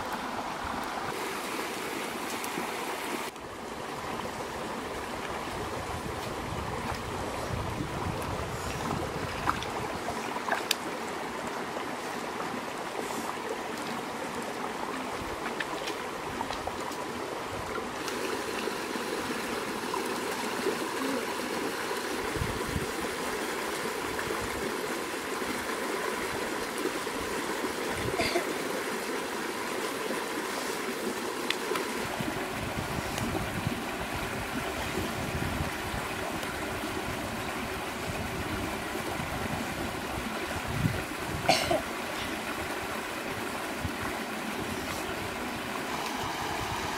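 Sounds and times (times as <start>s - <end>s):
river water over stones: 0.0s - 46.9s.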